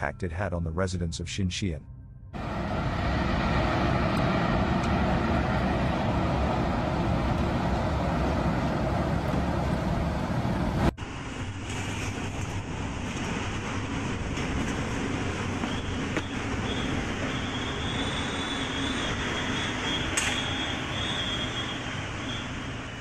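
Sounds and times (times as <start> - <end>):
tornado wind rushing: 2.4 - 23.0.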